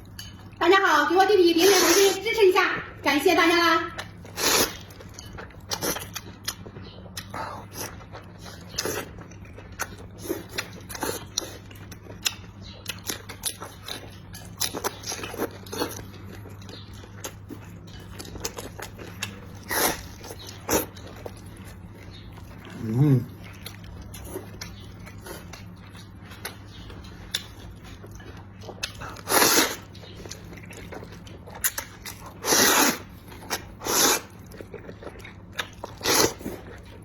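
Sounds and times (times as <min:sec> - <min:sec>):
person chewing and mouth-smacking: 0:00.0 - 0:00.6, 0:03.9 - 0:37.0
low steady hum: 0:00.0 - 0:37.0.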